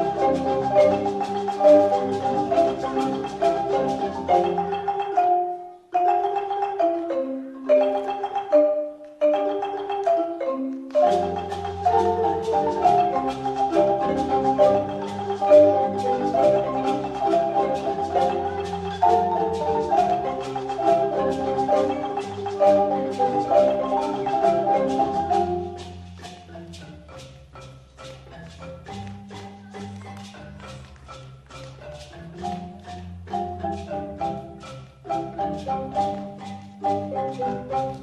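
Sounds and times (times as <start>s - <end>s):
marimba ensemble playing: 0.0s - 38.0s.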